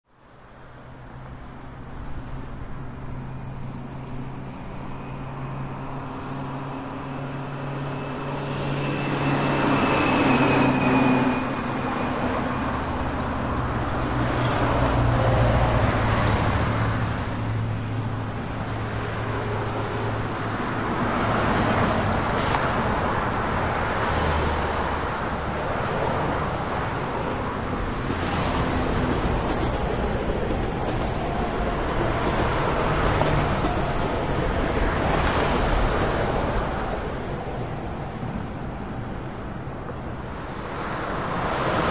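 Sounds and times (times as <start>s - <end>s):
vehicles passing: 0.2s - 41.9s.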